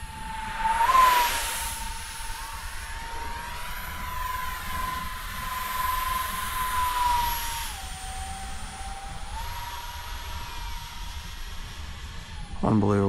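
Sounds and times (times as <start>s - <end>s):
rush of air: 0.0s - 12.5s
jet fan whining: 0.0s - 13.0s.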